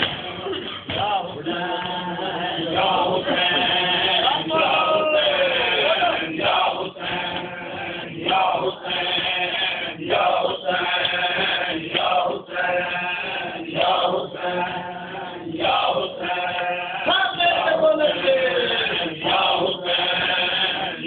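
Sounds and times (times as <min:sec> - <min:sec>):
men chanting in unison: 0:00.8 - 0:21.0.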